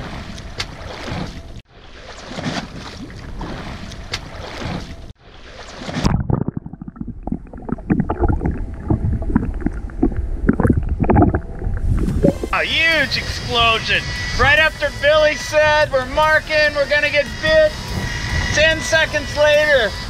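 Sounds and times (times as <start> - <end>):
sea water: 0.0 - 20.0
wind: 0.0 - 20.0.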